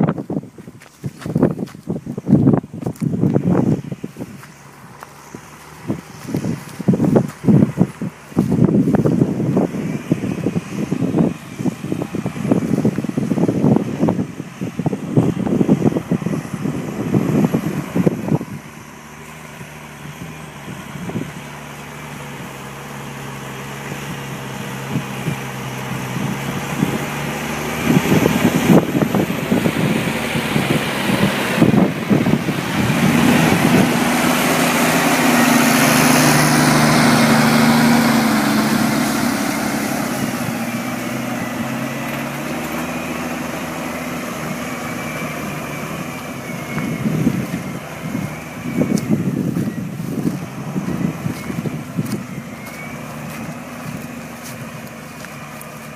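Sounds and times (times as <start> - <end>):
tractor diesel engine: 0.0 - 55.9.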